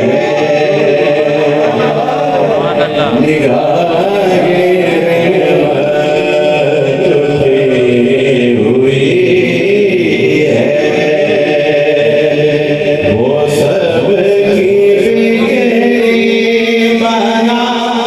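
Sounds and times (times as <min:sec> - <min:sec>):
man chanting into microphone: 0:00.0 - 0:18.0.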